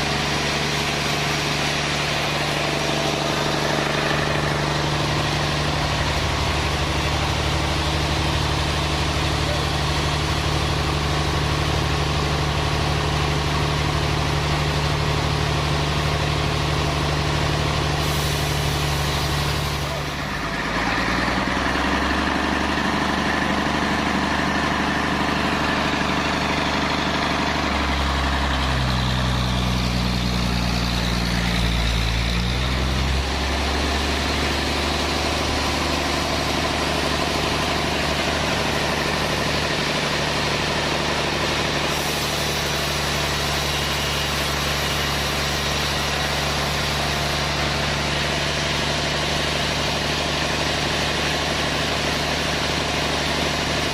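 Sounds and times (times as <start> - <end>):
sawmill machinery engine drone: 0.0 - 53.9.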